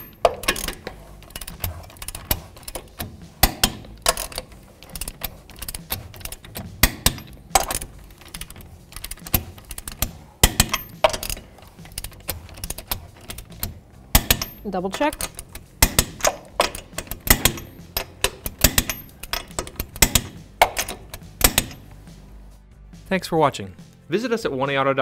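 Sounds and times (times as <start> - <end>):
torque wrench clicking: 0.0 - 21.9.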